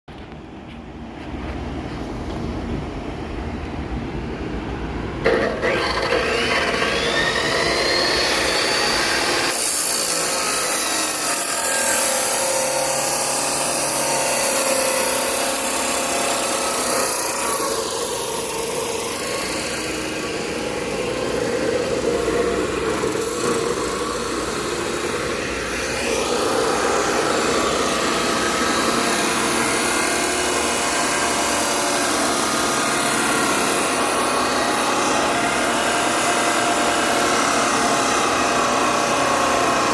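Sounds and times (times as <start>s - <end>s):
spindle whine: 0.1s - 39.9s
cnc machine cutting: 5.2s - 39.9s.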